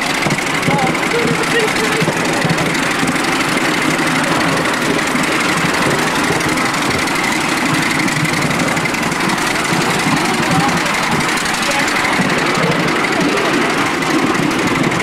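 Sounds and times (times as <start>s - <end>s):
miniature steam locomotive running: 0.0s - 15.0s.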